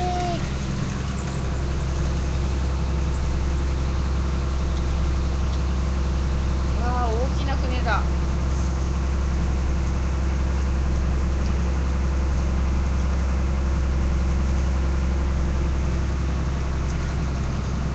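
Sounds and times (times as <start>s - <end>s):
ferry engine drone: 0.0s - 17.9s.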